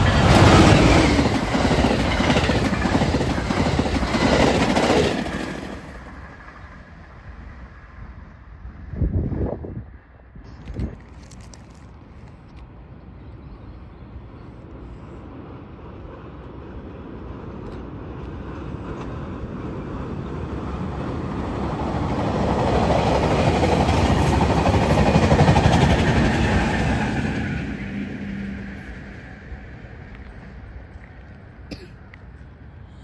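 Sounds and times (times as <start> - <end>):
train rumble and wheel noise: 0.0 - 33.0.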